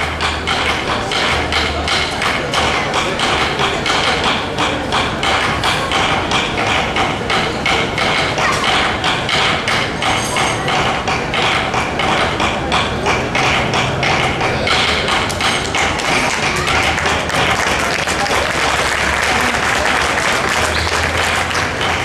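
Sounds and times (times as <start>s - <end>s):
drums beating quick rhythm: 0.0s - 22.0s.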